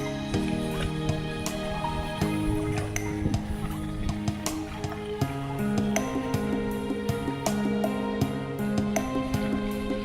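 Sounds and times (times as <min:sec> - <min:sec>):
plucked-string instrumental music: 0:00.0 - 0:10.0.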